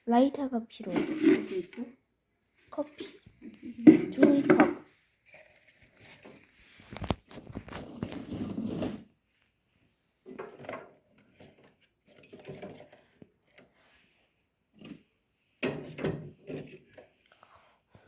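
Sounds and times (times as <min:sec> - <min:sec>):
household items clinking and rustling: 0:00.7 - 0:02.0, 0:02.6 - 0:09.1, 0:10.2 - 0:13.9, 0:14.8 - 0:17.8.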